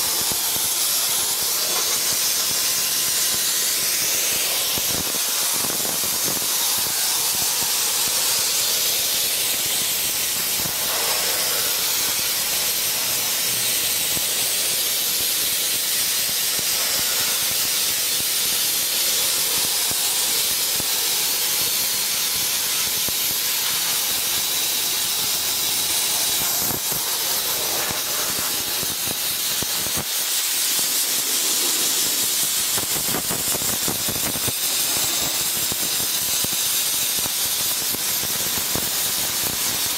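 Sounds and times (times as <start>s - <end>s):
blast nozzle hissing: 0.0s - 39.9s.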